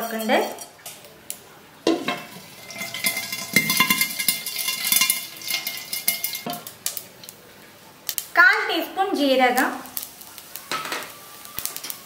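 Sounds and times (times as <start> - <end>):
seeds crackling in hot oil: 0.0 - 12.0.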